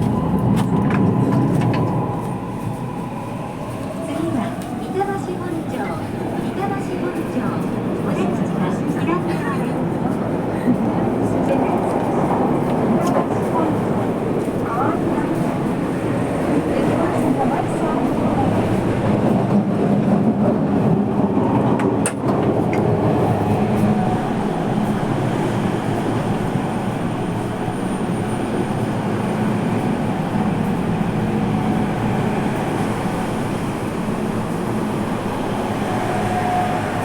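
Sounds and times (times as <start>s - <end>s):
subway car wheels and motors rumbling: 0.0s - 37.0s.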